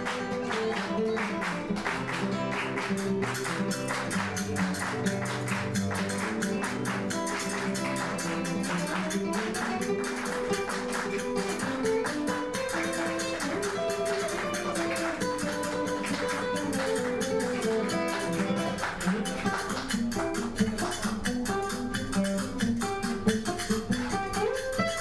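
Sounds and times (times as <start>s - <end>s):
nylon-string guitar playing: 0.0s - 25.0s
sharp percussion clicks: 2.9s - 25.0s.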